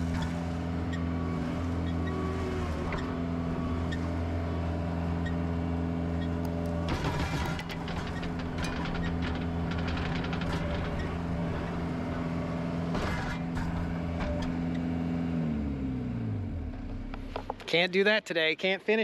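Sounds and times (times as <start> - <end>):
skid loader engine running: 0.0 - 17.7.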